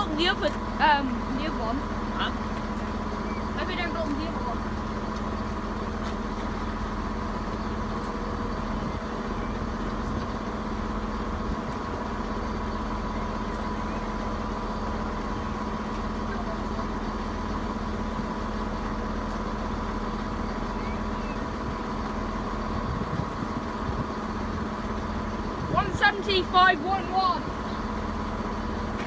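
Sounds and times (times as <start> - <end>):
train diesel engine idling: 0.0 - 29.0.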